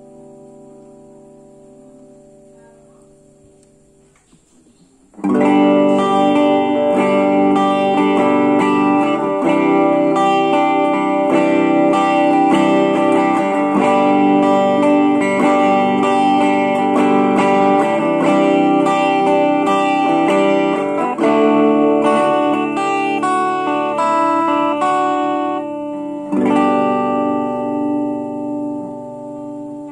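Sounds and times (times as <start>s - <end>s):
electric guitar through small amp: 0.0s - 4.1s, 5.1s - 29.9s.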